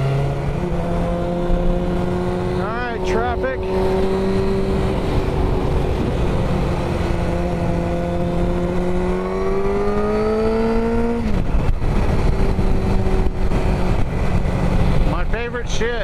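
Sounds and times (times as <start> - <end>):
motorcycle engine accelerating: 0.0 - 15.5
wind rush on microphone: 0.2 - 16.0.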